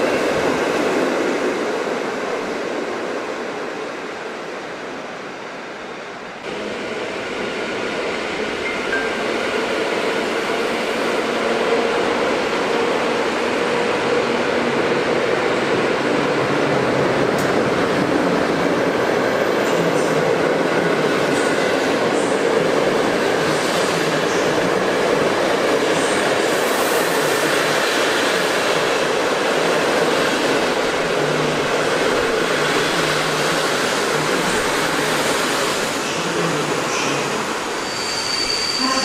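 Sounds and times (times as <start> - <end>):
train wheels rumbling on rails: 6.4 - 39.0.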